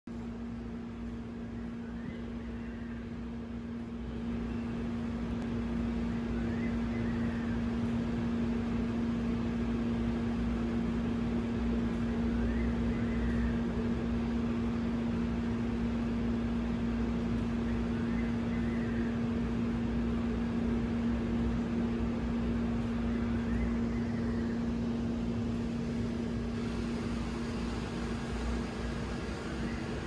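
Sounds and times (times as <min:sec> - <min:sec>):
machine hum with rumble: 0:00.0 - 0:30.0.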